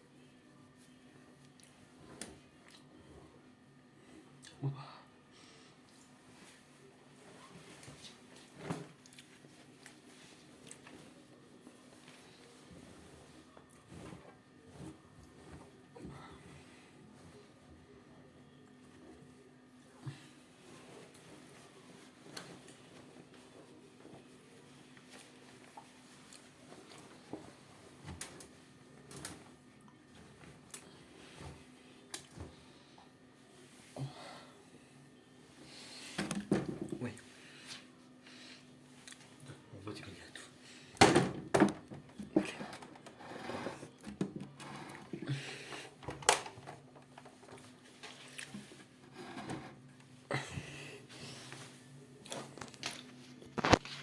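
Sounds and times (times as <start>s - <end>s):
washing machine hum: 0.0s - 54.0s.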